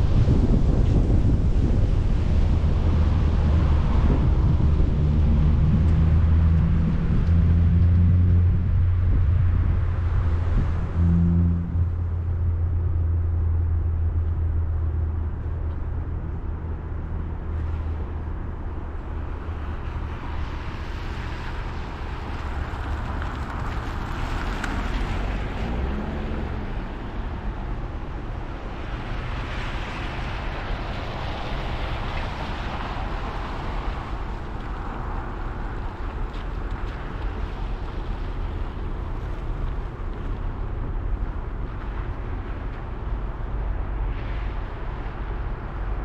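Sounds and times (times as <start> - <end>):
road and engine noise inside cab: 0.0 - 46.0
rushing tyre noise: 0.0 - 46.0.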